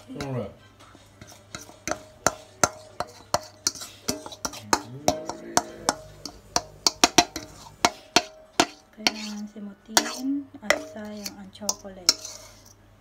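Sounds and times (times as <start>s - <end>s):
utensil scraping metal bowl: 0.0s - 12.9s.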